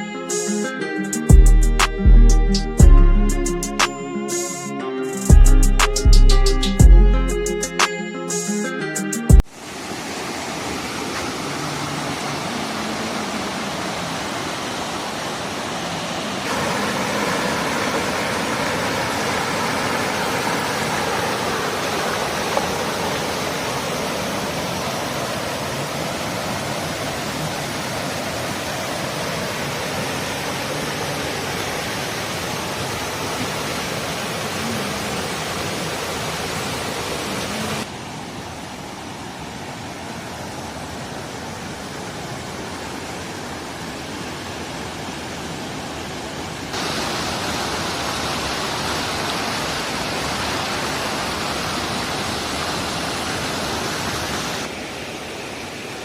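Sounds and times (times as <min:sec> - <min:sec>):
waterfall rushing: 0:09.4 - 0:56.0.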